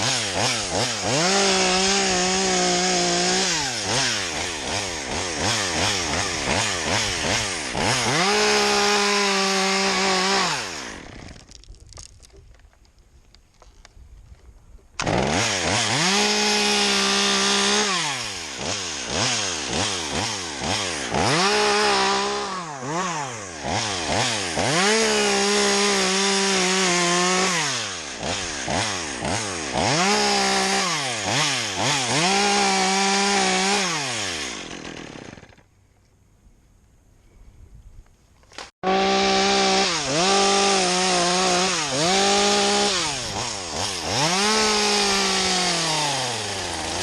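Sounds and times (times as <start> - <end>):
chainsaw revving and cutting wood: 0.0 - 11.6, 15.0 - 35.7, 38.5 - 47.0.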